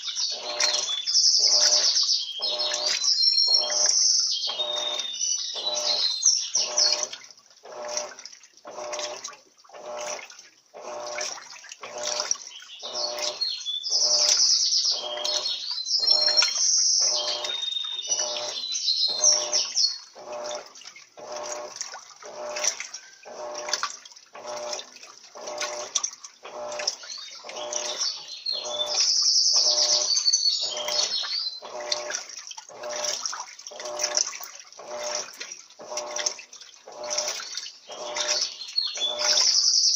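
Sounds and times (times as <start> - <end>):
birds chirping: 0.0 - 8.0, 10.8 - 23.7, 25.4 - 34.2, 36.9 - 39.9
washing machine sloshing water: 0.0 - 39.9.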